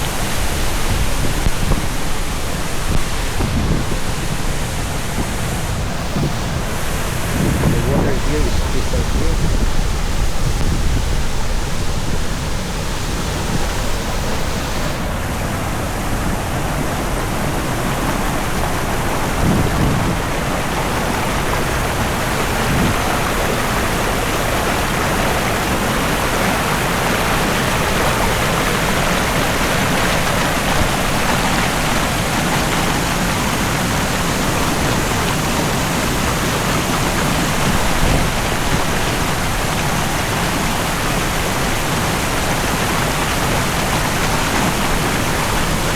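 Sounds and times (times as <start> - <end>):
water pouring over waterfall: 0.0 - 45.9.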